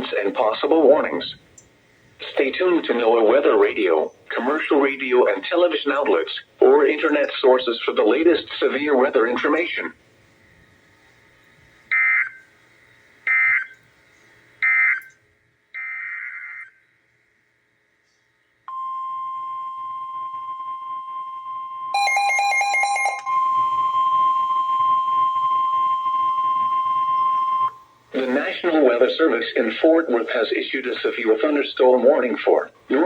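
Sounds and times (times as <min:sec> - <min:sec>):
steady warning alarm tone: 0:02.2 - 0:13.9, 0:14.5 - 0:16.9, 0:18.7 - 0:33.0.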